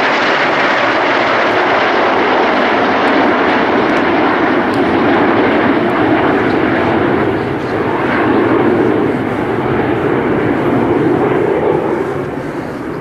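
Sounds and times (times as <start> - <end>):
jet planes flying past: 0.0 - 13.0.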